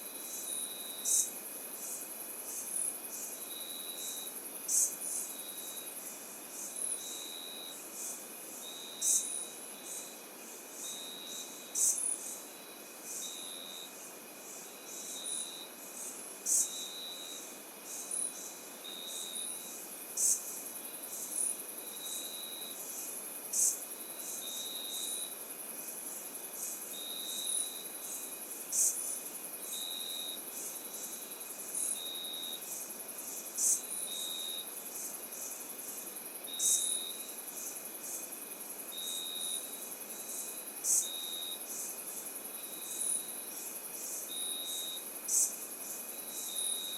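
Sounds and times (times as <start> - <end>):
cricket chirps: 0.0 - 46.9
high insect trills: 0.0 - 46.9
soft steady hiss: 0.0 - 46.9
sharp high insect calls: 0.2 - 46.9.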